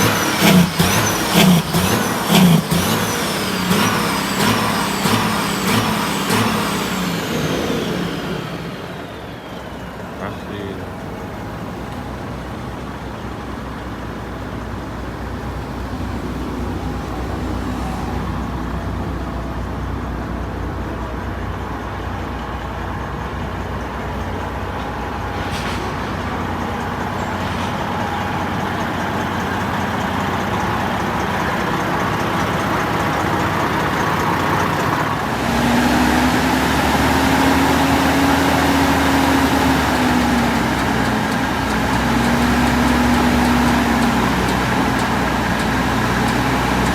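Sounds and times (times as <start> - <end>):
truck diesel engine running: 0.0 - 46.9.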